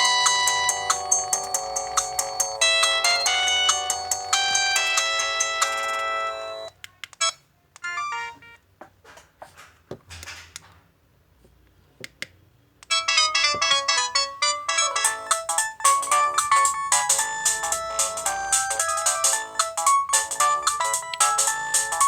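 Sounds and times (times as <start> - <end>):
electronic phone alarm melody: 0.0 - 8.6, 12.9 - 22.0.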